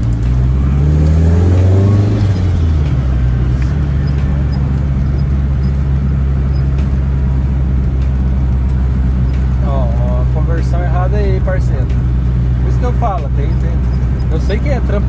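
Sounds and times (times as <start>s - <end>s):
pickup truck engine driving: 0.0s - 15.0s.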